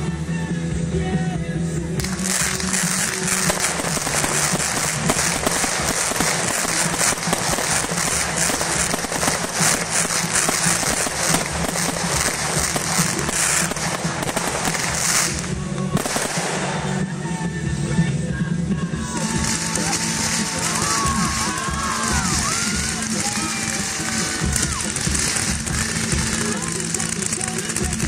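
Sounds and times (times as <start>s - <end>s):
music: 0.0s - 28.0s
fireworks pops and crackles: 1.9s - 17.5s, 19.1s - 28.0s.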